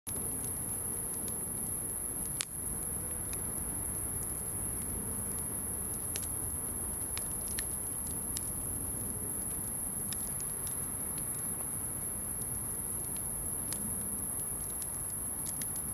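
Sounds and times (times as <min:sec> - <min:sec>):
fire crackling and popping: 0:00.3 - 0:15.9.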